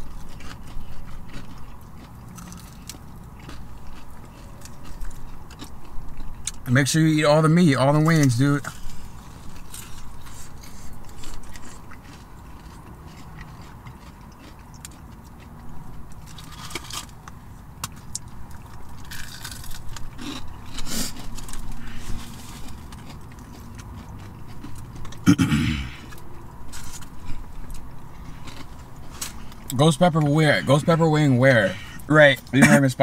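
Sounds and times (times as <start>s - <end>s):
chewing and crunching: 0.0s - 32.9s.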